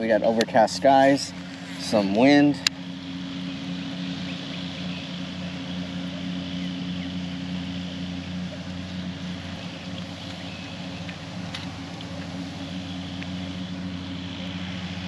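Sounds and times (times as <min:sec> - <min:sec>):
constant hiss: 0:00.0 - 0:15.0
engine humming: 0:00.0 - 0:15.0.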